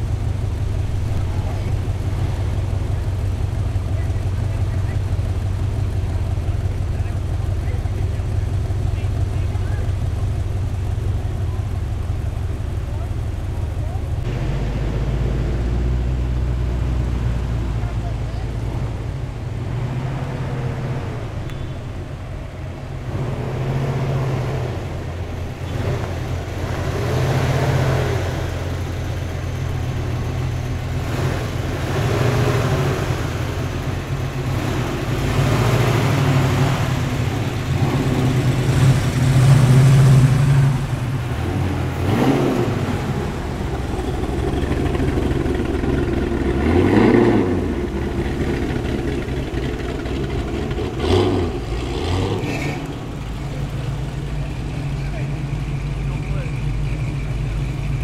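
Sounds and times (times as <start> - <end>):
cars driving past slowly: 0.0 - 58.0
engine revving: 0.0 - 58.0.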